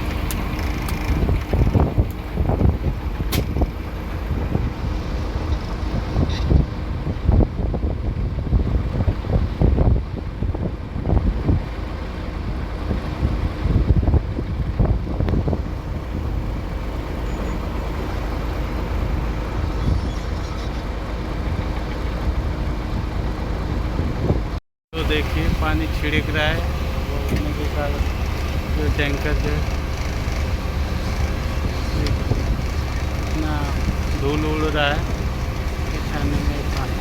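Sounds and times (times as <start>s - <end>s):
heavy machinery engine rumbling: 0.0s - 37.0s.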